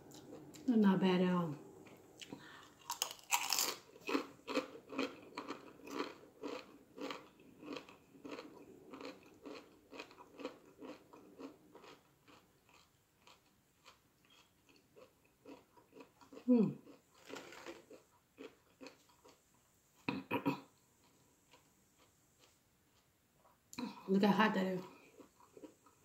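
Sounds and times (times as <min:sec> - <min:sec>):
chewing crunchy tortilla chips: 0:01.9 - 0:23.1, 0:24.8 - 0:26.0.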